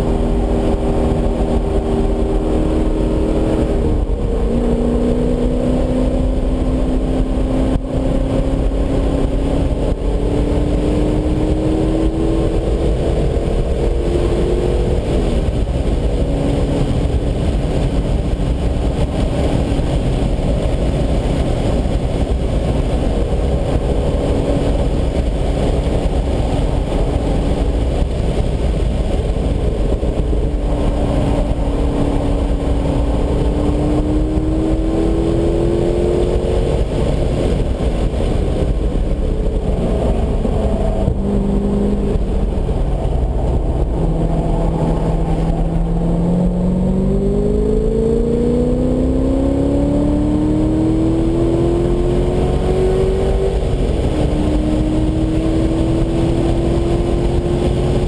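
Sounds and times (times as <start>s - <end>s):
car engine revving: 0.0s - 58.0s
road and wind rumble: 0.0s - 58.0s.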